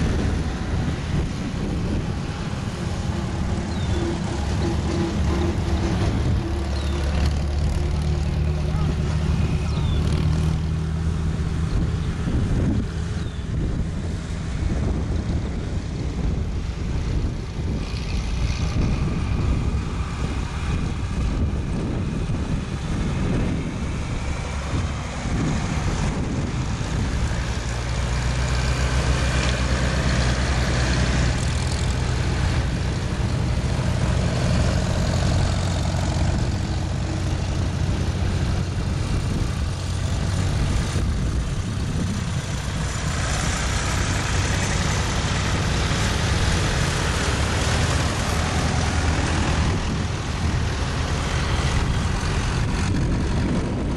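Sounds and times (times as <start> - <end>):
tractor engines droning: 0.0 - 53.9.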